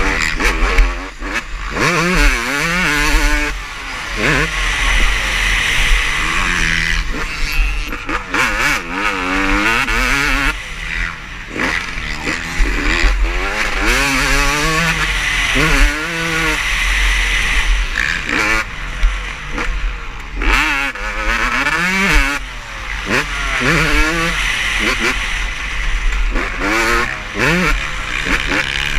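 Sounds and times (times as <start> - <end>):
motocross bikes revving: 0.0 - 28.9.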